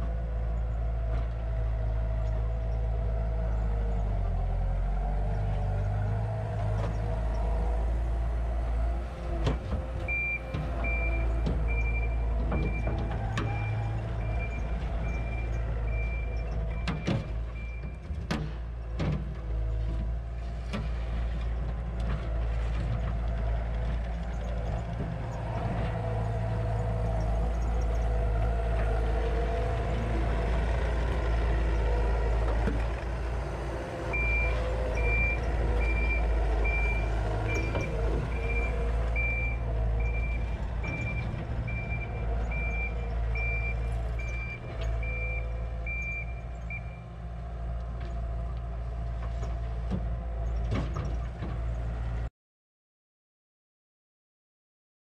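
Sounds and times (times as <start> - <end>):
diesel engine running: 0.0 - 52.3.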